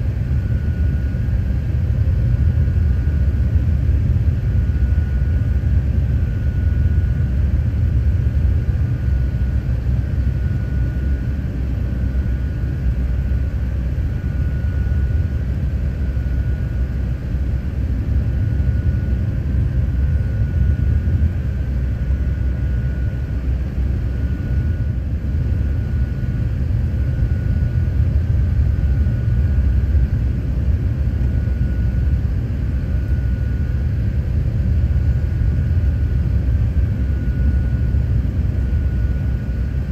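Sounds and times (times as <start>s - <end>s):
faint high whine: 0.0s - 39.9s
jet engine cabin rumble: 0.0s - 39.9s.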